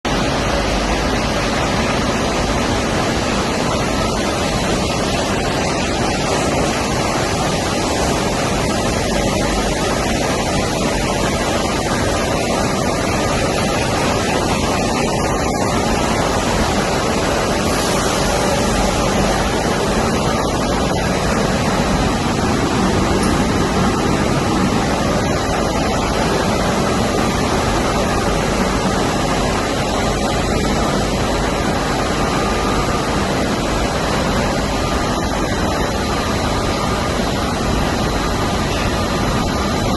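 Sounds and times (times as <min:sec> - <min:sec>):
machinery steady rushing noise: 0:00.0 - 0:39.9.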